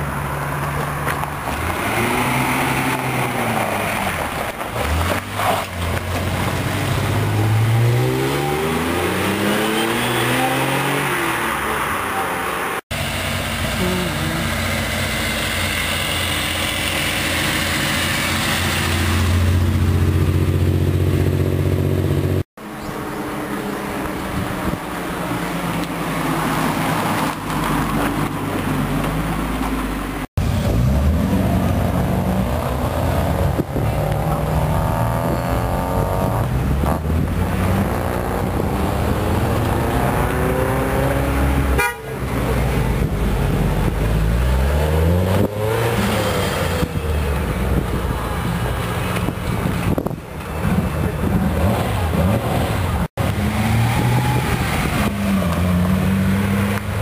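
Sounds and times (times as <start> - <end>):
cars with loud mufflers revving: 0.0 - 57.0.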